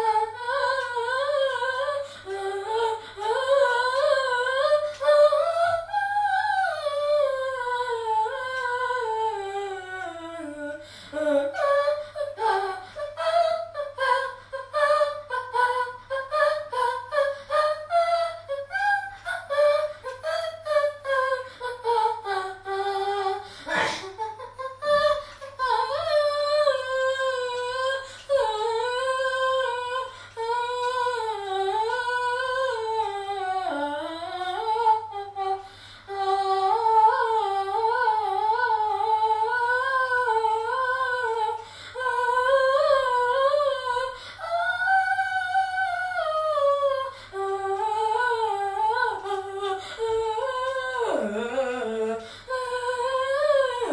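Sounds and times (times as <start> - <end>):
person humming a melody: 0.0 - 53.9.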